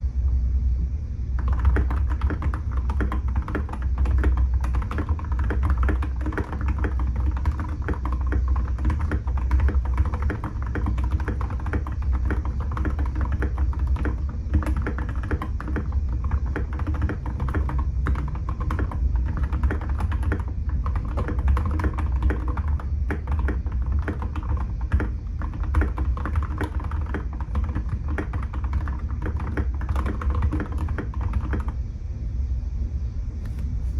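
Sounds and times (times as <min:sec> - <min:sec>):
faint cicadas singing: 0:00.0 - 0:33.9
steady low rumble: 0:00.0 - 0:33.9
typing on mechanical keyboard: 0:01.4 - 0:31.8.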